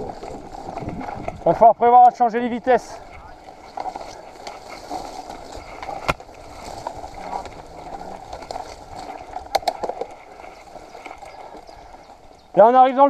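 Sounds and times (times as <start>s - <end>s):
bike rattling: 0.0s - 13.0s
bike tyres rolling on dirt: 0.0s - 13.0s.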